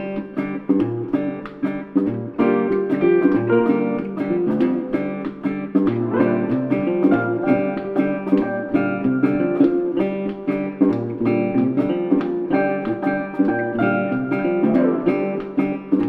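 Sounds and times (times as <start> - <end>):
upbeat guitar music: 0.0 - 16.0.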